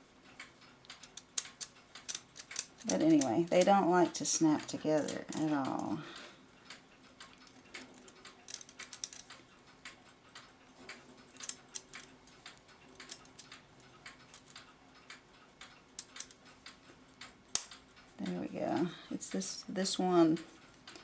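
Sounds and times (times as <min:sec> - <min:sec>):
faint steady hum: 0:00.0 - 0:21.0
small metallic clicks of clock plates: 0:00.2 - 0:21.0.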